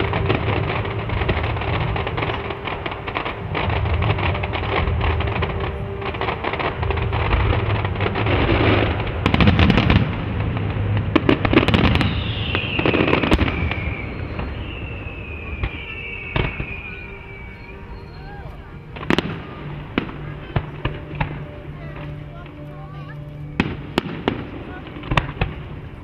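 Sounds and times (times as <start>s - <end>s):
falling fireworks whistles: 0.0s - 26.0s
fireworks bangs: 0.0s - 26.0s
fireworks crackling and popping: 0.0s - 26.0s.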